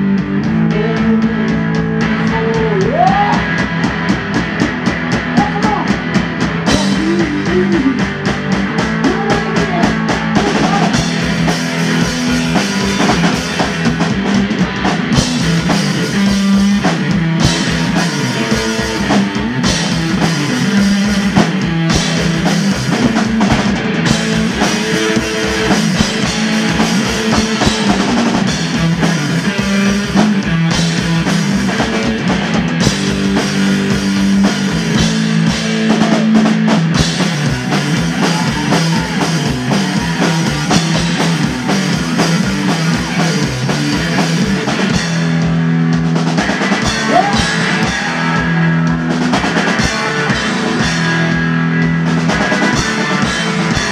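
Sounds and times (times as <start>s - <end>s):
drum kit fast beat: 0.0s - 53.9s
electric guitar: 0.0s - 53.9s.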